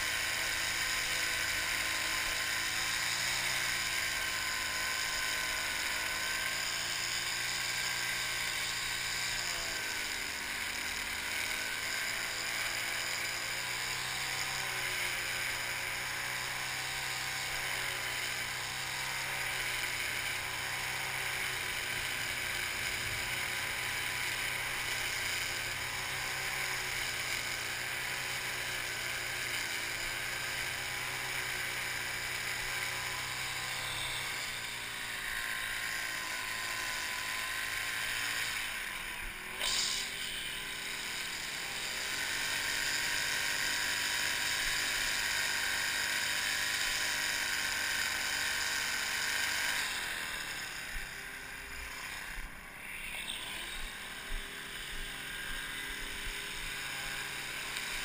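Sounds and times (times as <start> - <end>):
string trimmer running: 0.0 - 58.0.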